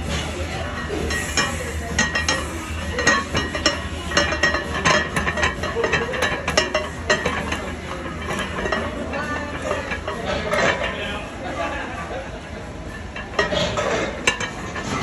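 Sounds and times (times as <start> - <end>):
weight plates clanking: 0.0 - 11.4, 12.8 - 15.0
steady low hum: 0.0 - 15.0.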